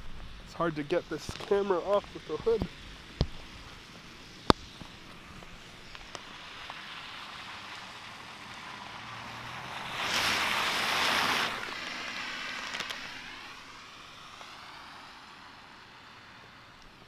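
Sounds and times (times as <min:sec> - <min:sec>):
car tyres hissing through snow: 0:00.0 - 0:17.0.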